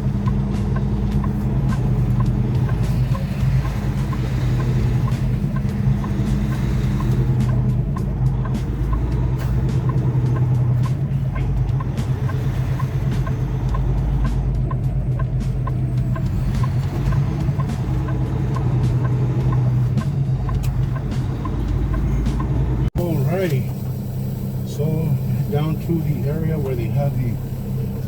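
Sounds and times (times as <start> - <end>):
diesel truck engine running: 0.0 - 28.0
light regular ticking: 0.0 - 28.0.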